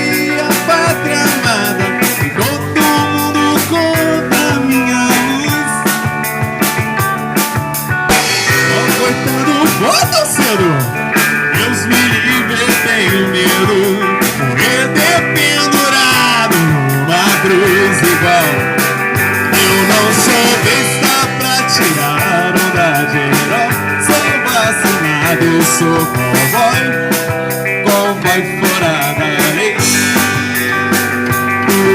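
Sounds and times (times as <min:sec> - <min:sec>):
pop-rock band playing: 0:00.0 - 0:31.9
sliding lead guitar lines: 0:00.0 - 0:31.9
steady drum beat: 0:00.0 - 0:31.9.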